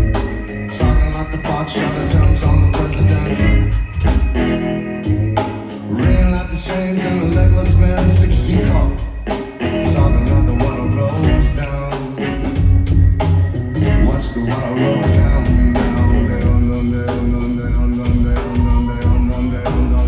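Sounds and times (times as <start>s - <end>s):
live band music: 0.0s - 20.0s
steady drum beat: 0.0s - 20.0s.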